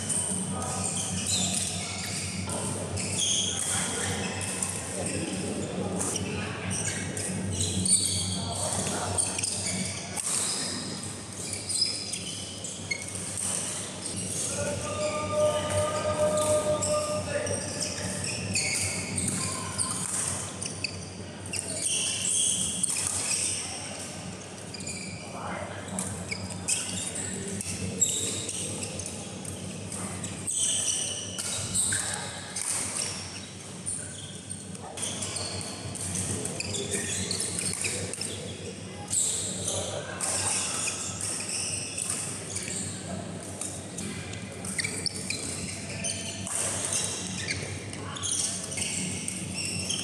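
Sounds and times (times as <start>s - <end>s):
shoes squeaking on court: 0.1s - 50.0s.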